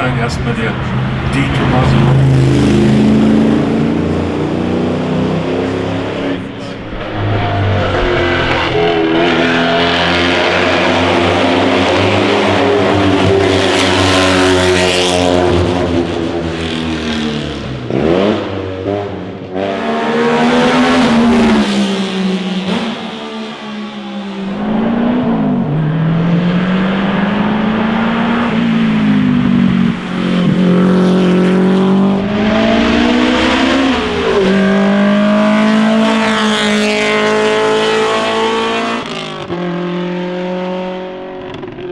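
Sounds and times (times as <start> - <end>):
racing car engines at full throttle: 0.0 - 41.9.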